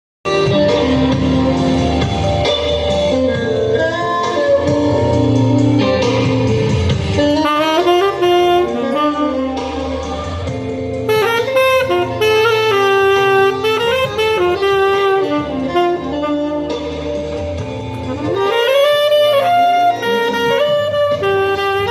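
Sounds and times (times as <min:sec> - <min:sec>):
live band accompaniment: 0:00.3 - 0:21.9
saxophone solo: 0:00.3 - 0:21.9.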